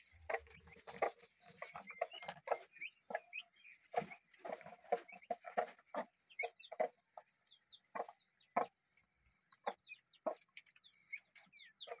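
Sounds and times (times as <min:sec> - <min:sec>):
hen clucking: 0:00.0 - 0:12.0
turkey poults peeping: 0:00.0 - 0:12.0.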